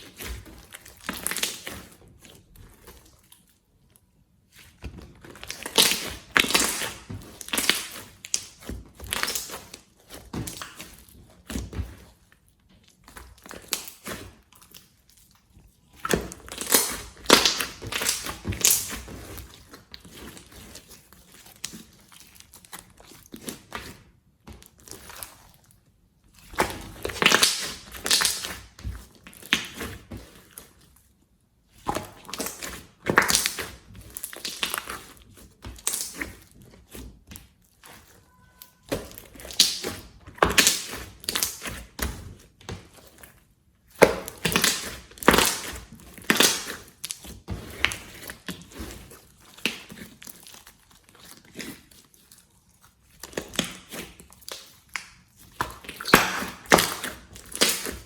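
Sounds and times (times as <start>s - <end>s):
slime squished by hand: 0.0s - 3.6s, 4.5s - 12.2s, 12.8s - 25.7s, 26.3s - 30.9s, 31.7s - 58.0s.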